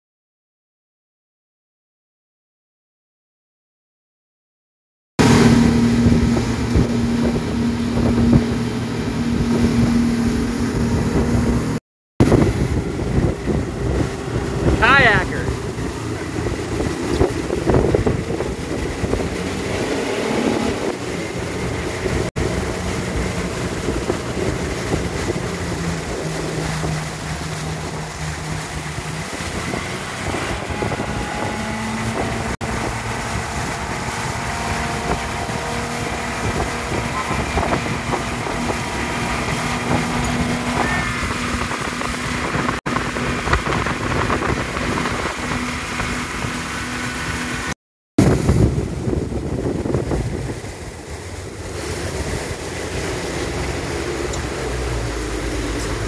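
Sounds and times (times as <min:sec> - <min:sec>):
boat engine drone: 0:05.2 - 0:56.0
rush of boat wake: 0:05.2 - 0:56.0
wind buffeting microphone: 0:05.2 - 0:56.0.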